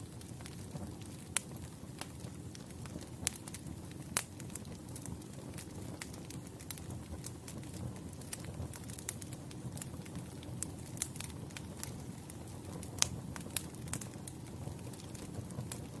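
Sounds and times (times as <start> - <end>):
low rumble of fire: 0.0 - 16.0
wood fire crackles and pops: 0.0 - 16.0.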